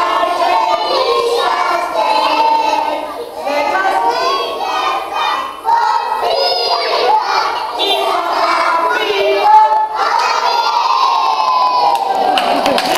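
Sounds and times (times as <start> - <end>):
children singing and shouting: 0.0 - 12.4.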